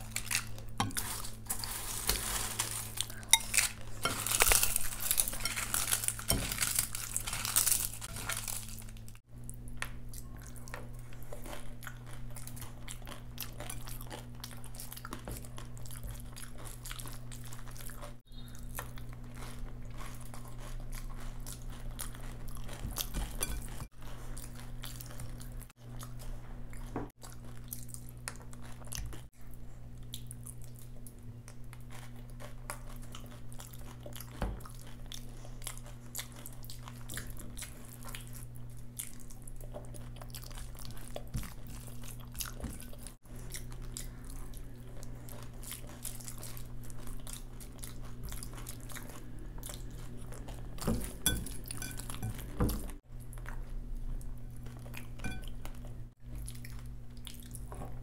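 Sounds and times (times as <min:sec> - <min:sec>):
wet chewing and smacking: 0:03.0 - 0:58.0.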